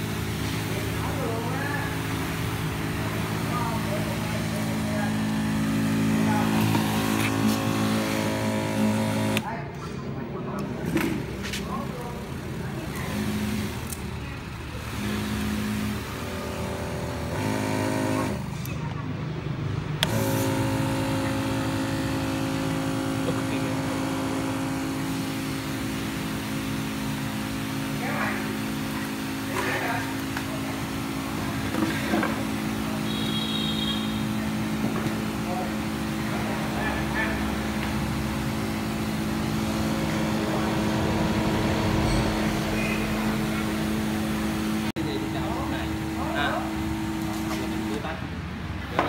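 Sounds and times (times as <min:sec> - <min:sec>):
electric pump humming: 0:00.0 - 0:09.6, 0:10.7 - 0:18.7, 0:19.8 - 0:48.2.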